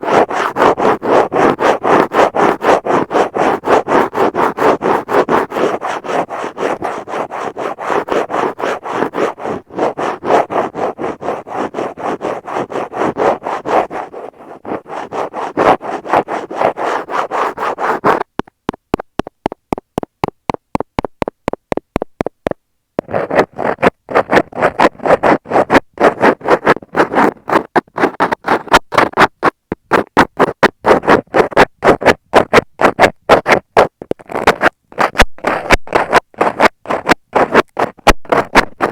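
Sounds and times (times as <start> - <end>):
ear pick scratching microphone: 0.0 - 38.9
tweezers scratching: 0.0 - 38.9.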